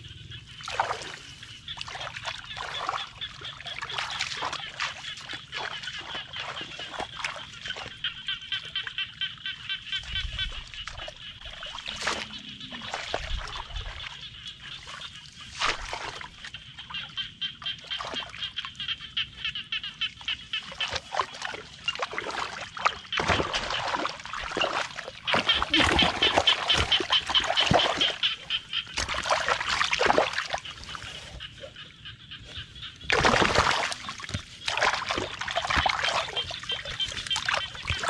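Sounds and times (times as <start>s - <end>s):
sloshing in muddy water: 0.0s - 38.0s.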